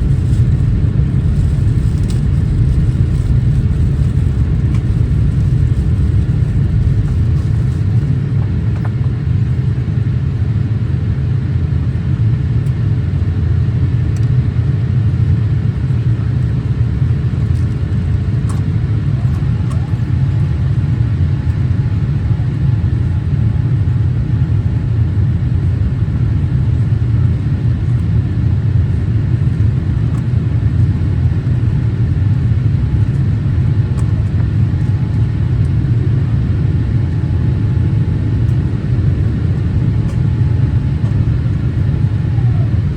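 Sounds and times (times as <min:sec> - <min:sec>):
airliner cabin rumble: 0:00.0 - 0:42.9
faint steady hum: 0:00.0 - 0:42.9.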